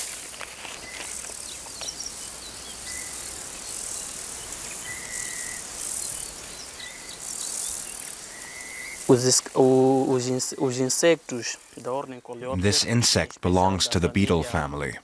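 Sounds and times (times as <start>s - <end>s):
insects buzzing trills: 0.0s - 14.3s.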